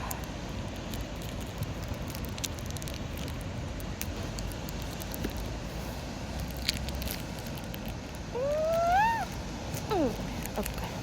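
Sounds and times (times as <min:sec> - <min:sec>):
light crackles and clicks: 0:00.0 - 0:05.5, 0:06.4 - 0:10.9
wind: 0:00.0 - 0:11.0.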